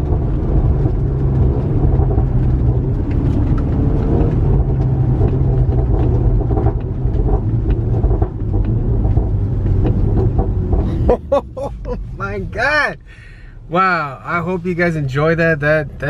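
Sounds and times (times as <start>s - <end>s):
car engine rumbling: 0.0s - 16.0s
exhaust pops and crackles: 0.0s - 16.0s.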